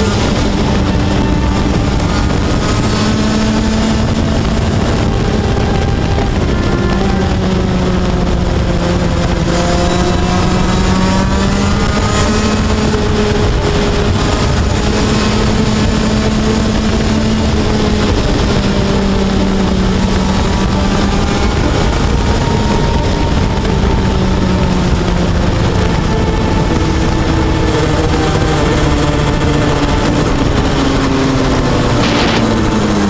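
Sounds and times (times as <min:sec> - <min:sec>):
kart engine revving: 0:00.0 - 0:33.0
steady rushing noise: 0:00.0 - 0:33.0.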